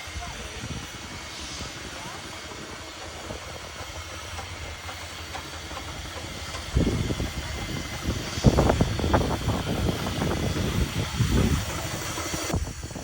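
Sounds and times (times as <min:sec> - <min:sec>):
steam engine hissing and rumbling: 0:00.0 - 0:13.0.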